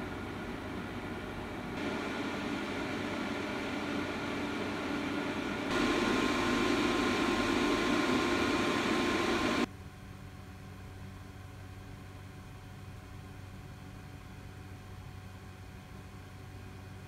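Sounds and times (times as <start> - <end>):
cooling fan whirring with whine: 0.0 - 17.0.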